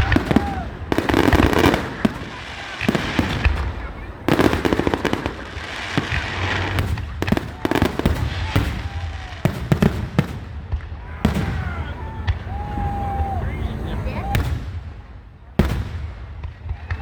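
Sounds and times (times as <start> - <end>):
fireworks booms and bangs: 0.0 - 17.0
fireworks crackling: 0.0 - 17.0
fireworks whistling: 0.0 - 17.0.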